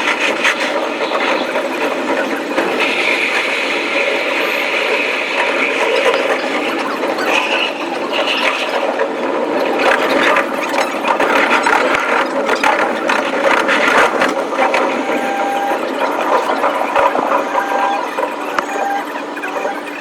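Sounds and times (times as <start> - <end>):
train rattling clatter: 0.0 - 20.0.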